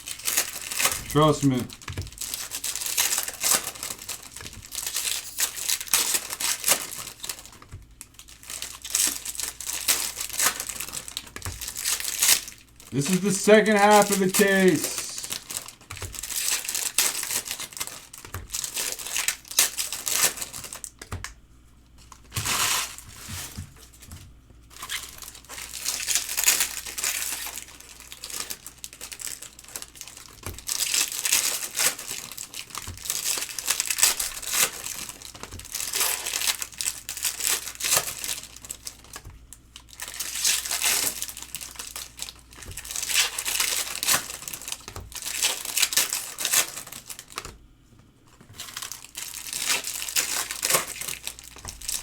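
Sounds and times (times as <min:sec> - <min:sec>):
foil wrappers crinkling and tearing: 0:00.0 - 0:21.3, 0:22.0 - 0:24.1, 0:24.7 - 0:47.6, 0:48.3 - 0:52.0.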